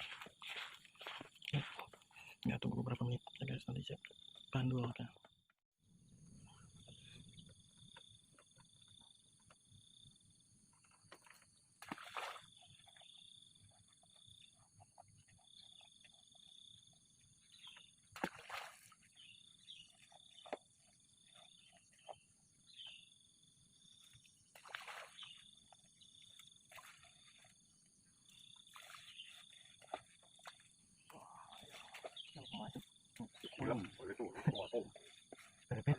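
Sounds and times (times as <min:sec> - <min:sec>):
insects chirring: 0:06.4 - 0:35.9.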